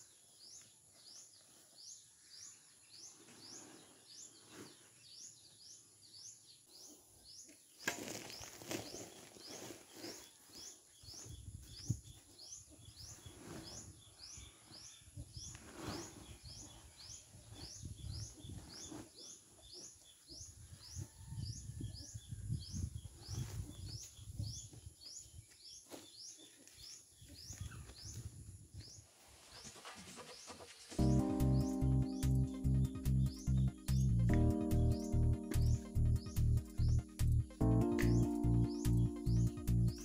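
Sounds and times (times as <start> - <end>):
bird chirping: 0.0 - 40.0.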